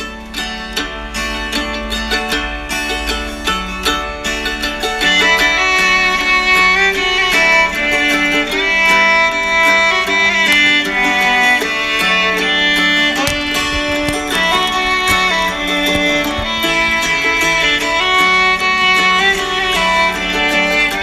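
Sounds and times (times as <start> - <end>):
melody of long held notes: 0.0 - 21.0
plucked notes: 0.0 - 21.0.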